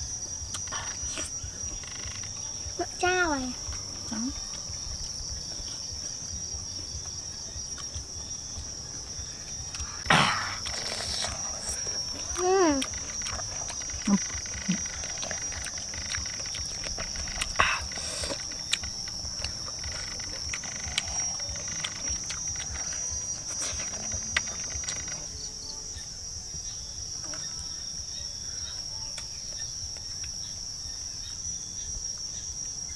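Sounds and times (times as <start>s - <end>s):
insect chorus trilling: 0.0s - 32.9s.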